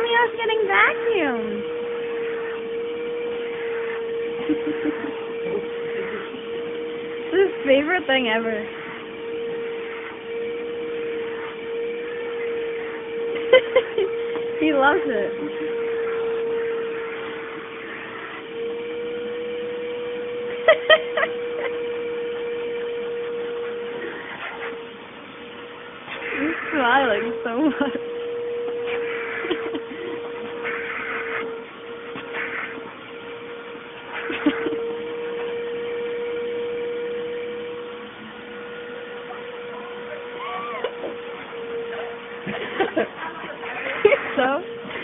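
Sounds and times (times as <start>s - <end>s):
vacuum cleaner whining: 0.0s - 45.0s.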